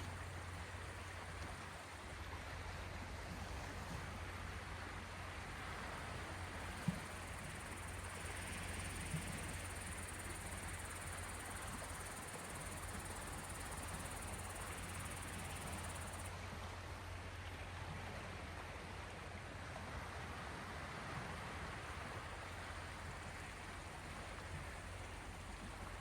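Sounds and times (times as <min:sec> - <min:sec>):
small waves washing in: 0:00.0 - 0:26.0.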